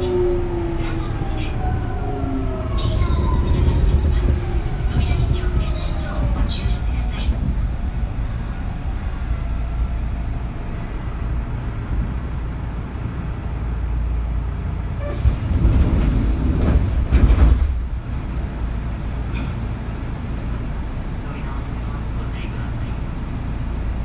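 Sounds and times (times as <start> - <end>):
train rattling and clatter: 0.0 - 24.0
train wheels rumbling: 0.0 - 24.0.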